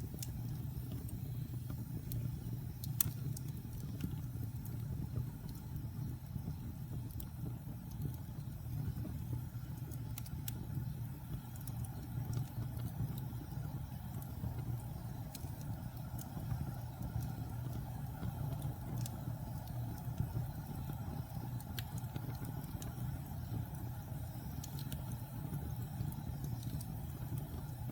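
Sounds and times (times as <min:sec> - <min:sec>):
fire crackling and popping: 0:00.0 - 0:27.9
fire flames rumbling: 0:00.0 - 0:27.9.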